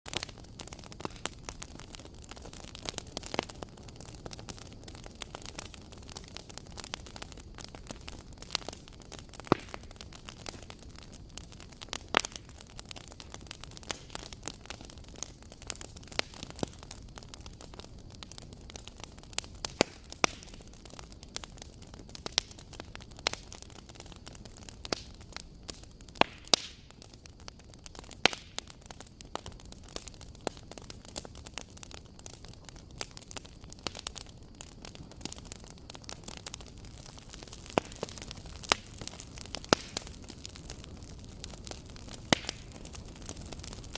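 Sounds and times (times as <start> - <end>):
campfire crackling: 0.1 - 43.9.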